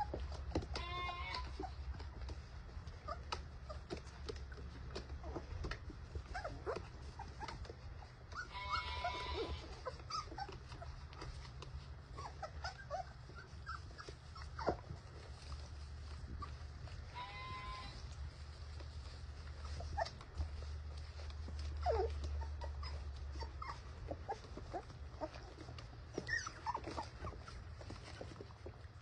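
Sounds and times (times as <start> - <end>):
puppies whimpering and squeaking: 0.0 - 29.0.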